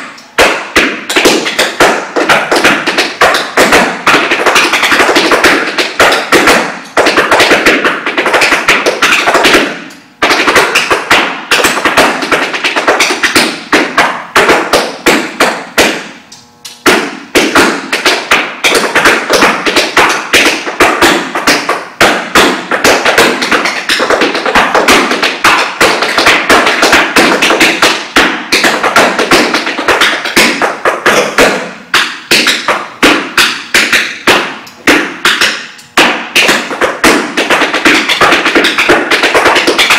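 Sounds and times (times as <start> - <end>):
tap shoes on wooden floor: 0.0 - 16.1, 16.9 - 39.9.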